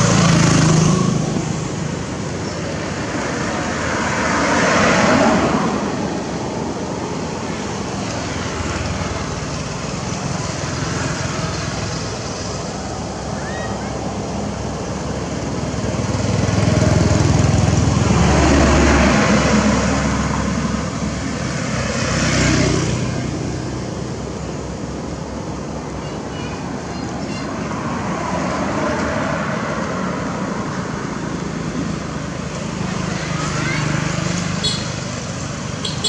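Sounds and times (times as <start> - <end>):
road noise: 0.0 - 36.0
vehicle engine hum: 0.0 - 36.0
vehicle passing: 0.0 - 36.0.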